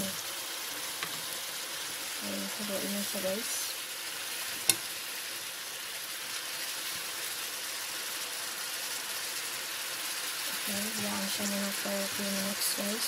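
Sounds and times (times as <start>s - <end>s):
stir-fry hissing in a pan: 0.0s - 13.0s.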